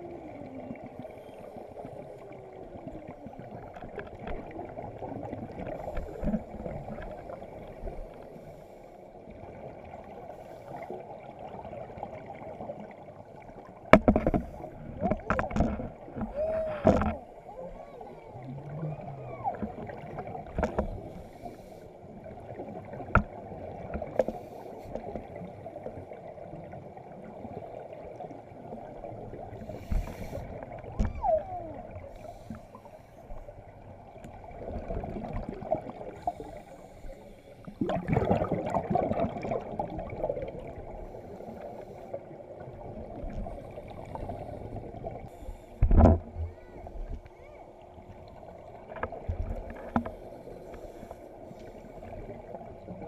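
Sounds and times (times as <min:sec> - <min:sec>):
underwater bubbles gurgling: 0:00.0 - 0:53.0.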